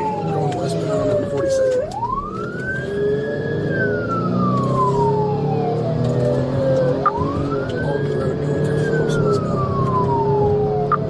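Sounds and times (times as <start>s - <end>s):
police siren wailing: 0.0s - 11.0s
vehicle engine and road noise: 0.0s - 11.0s.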